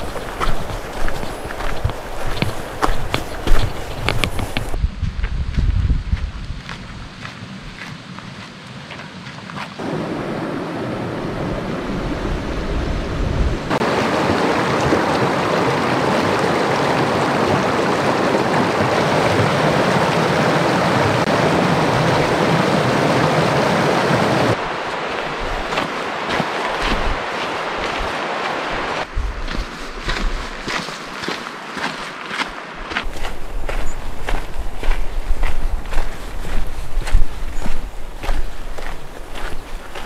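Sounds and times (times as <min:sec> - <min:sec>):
creek water rushing over rocks: 0:00.0 - 0:04.8, 0:09.8 - 0:40.0
wind buffeting microphone: 0:00.0 - 0:08.4, 0:09.8 - 0:30.8, 0:32.9 - 0:40.0.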